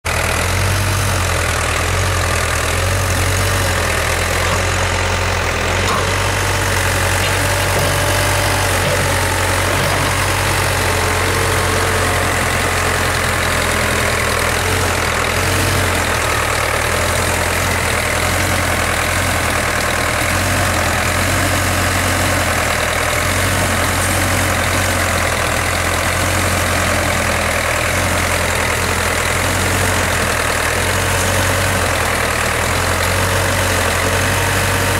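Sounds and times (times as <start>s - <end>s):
backhoe engine running: 0.0s - 34.9s.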